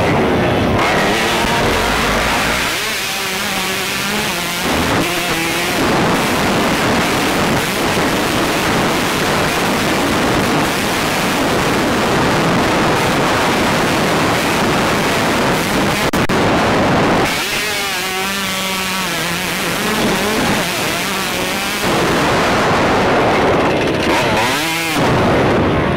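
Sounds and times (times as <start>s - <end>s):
motocross bike engine revving: 0.0s - 25.9s
wind rushing on microphone: 0.0s - 25.9s.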